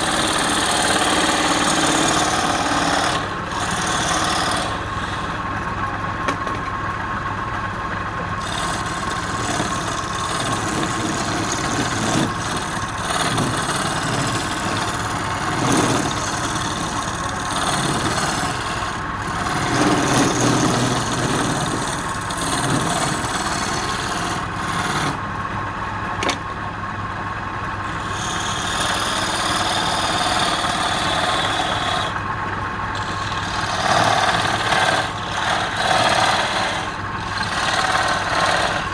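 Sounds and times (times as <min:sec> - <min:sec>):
tool cutting spinning wood: 0:00.0 - 0:06.0, 0:08.3 - 0:25.4, 0:27.8 - 0:38.9
wood lathe motor running: 0:00.0 - 0:06.0, 0:08.4 - 0:25.4, 0:27.8 - 0:38.9.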